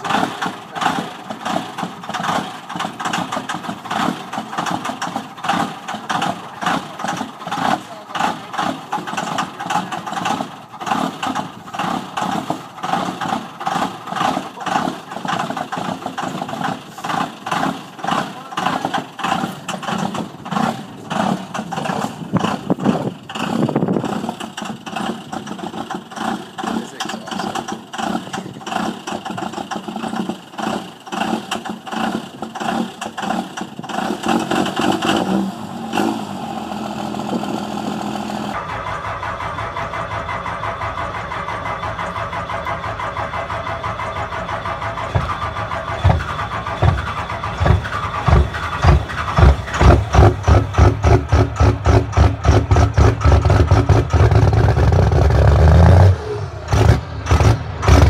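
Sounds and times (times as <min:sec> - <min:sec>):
diesel engine running rough: 0:00.0 - 0:58.0
diesel pickup cold starting: 0:00.0 - 0:58.0
heavy exhaust pulses: 0:00.0 - 0:58.0.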